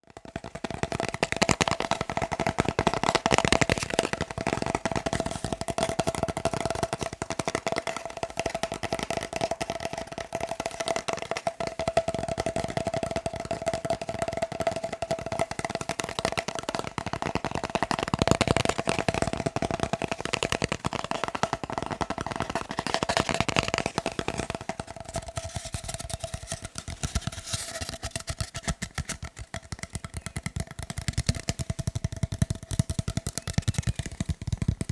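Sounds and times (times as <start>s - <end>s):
fast tapping on paper: 0.0s - 34.9s.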